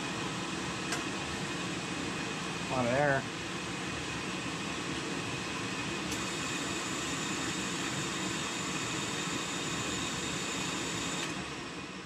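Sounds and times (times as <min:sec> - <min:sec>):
oil burner whirring with whine: 0:00.0 - 0:12.0.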